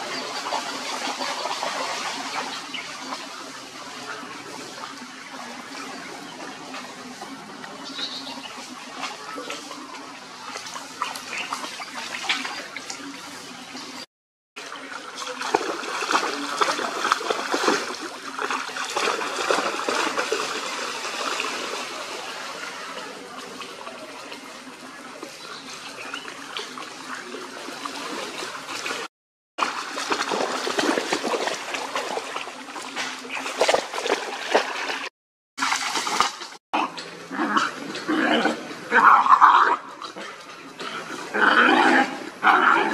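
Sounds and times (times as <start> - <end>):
dogs splashing through water: 0.0 - 14.0, 14.6 - 42.9.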